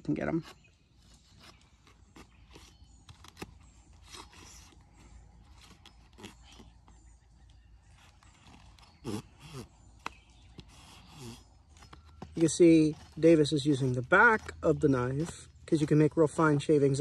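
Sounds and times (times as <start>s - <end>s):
machete scraping stick: 0.3s - 7.0s, 7.8s - 16.0s.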